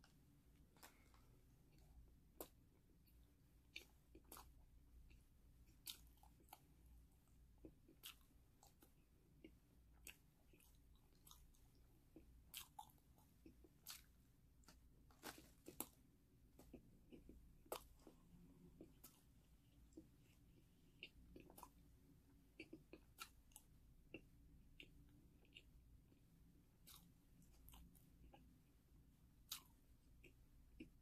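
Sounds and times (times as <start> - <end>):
person chewing crunchy snack: 0.0 - 21.9, 22.5 - 25.8, 26.8 - 28.5.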